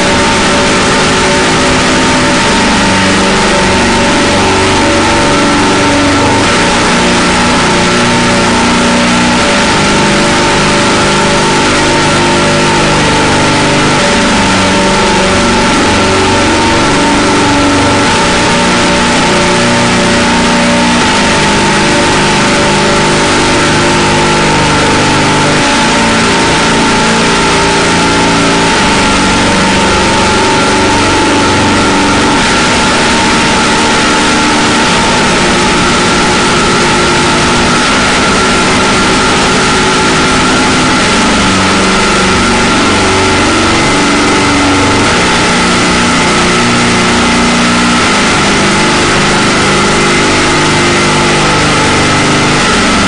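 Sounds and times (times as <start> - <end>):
harsh noise drone music: 0.0 - 53.0.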